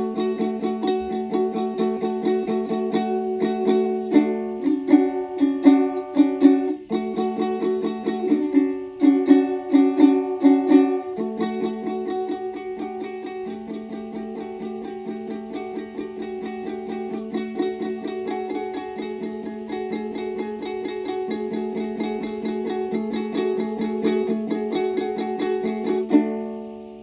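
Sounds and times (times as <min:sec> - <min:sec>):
picked string instrument notes: 0:00.0 - 0:27.0.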